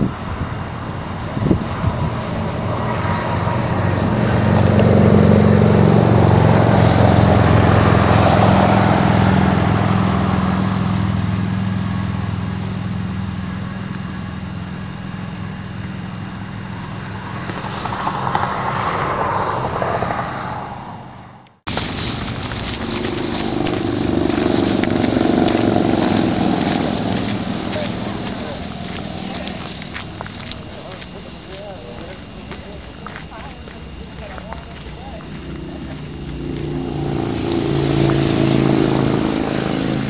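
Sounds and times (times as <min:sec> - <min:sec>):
distant engine drone: 0:00.0 - 0:40.0.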